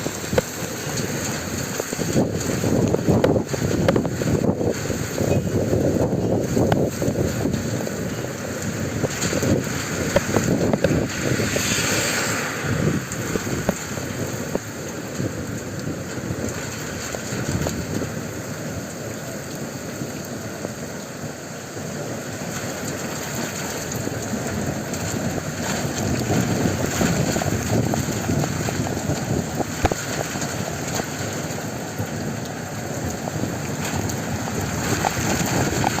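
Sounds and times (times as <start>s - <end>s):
rain pouring down: 0.0s - 36.0s.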